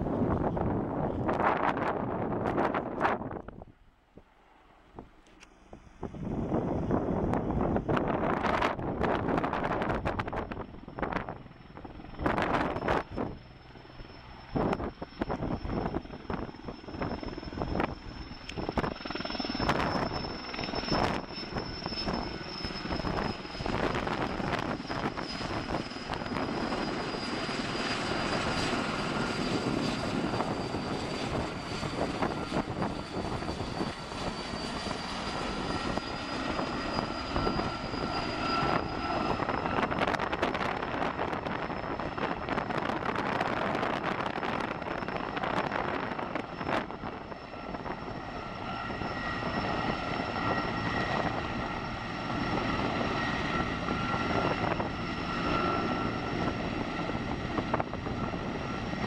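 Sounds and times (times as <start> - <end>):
high turbine whine: 0.0 - 59.0
lower turbine whine: 0.0 - 59.0
helicopter rotor blades chopping: 5.0 - 59.0.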